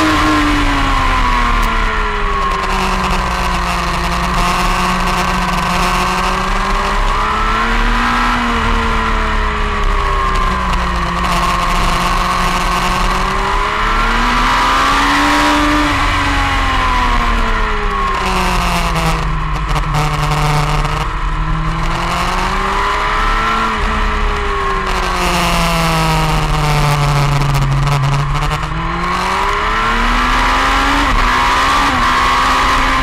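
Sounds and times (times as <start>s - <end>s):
motorcycle engine revving at speed: 0.0s - 33.0s.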